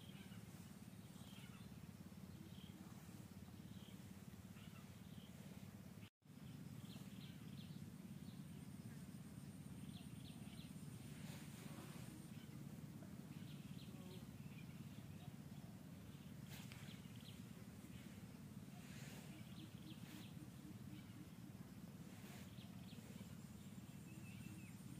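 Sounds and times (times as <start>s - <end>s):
faint bird chirps: 0.0s - 24.9s.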